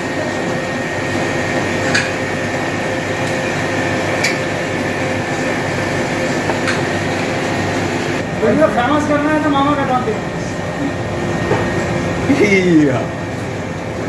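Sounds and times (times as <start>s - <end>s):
kitchen equipment droning: 0.0s - 14.0s.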